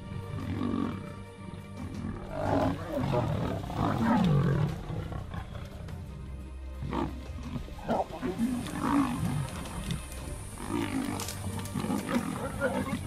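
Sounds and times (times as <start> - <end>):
big cats growling: 0.0 - 13.0.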